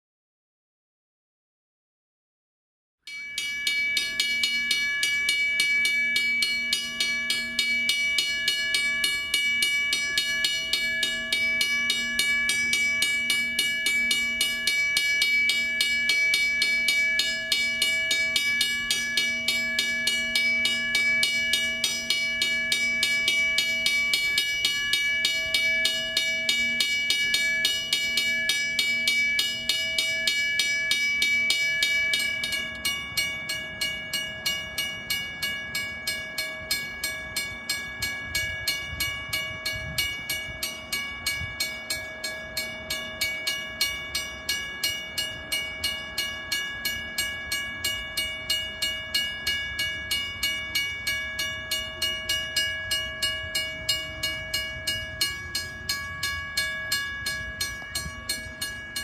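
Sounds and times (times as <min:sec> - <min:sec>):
level-crossing bell ringing: 0:03.1 - 0:59.0.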